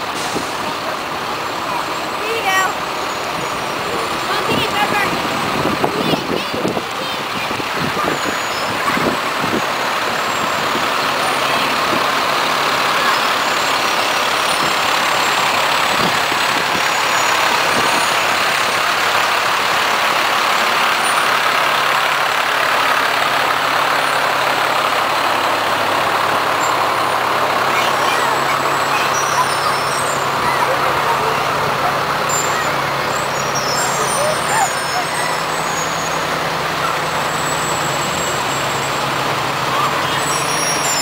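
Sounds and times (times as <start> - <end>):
fire truck diesel engines: 0.0 - 41.0.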